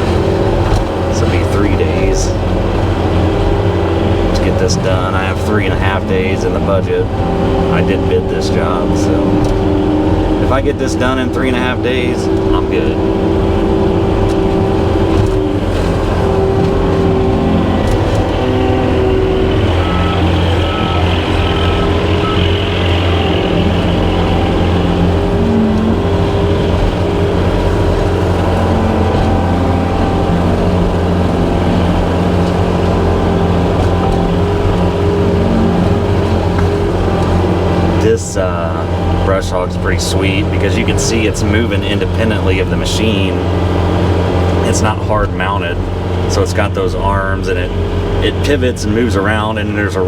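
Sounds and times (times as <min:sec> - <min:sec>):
skid steer engine running: 0:00.0 - 0:50.0.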